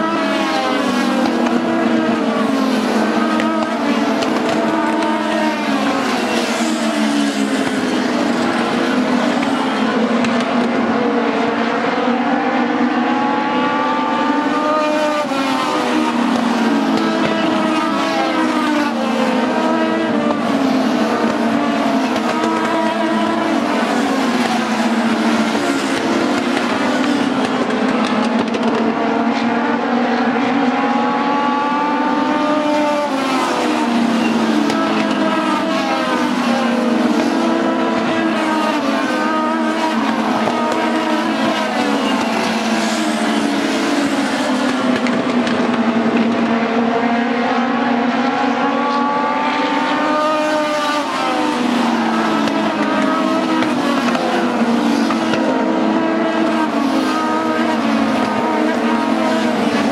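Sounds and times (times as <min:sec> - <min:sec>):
race car engines at speed: 0:00.0 - 0:59.9.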